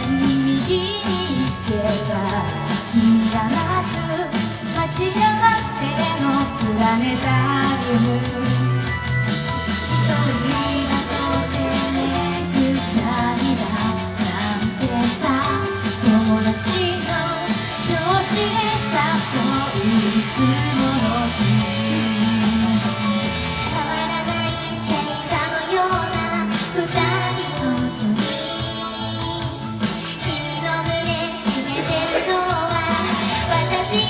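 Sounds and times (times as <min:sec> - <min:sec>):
women singing: 0:00.0 - 0:09.0, 0:09.9 - 0:34.0
pop-rock instrumental music: 0:00.0 - 0:34.0
steady bass line: 0:00.0 - 0:34.0.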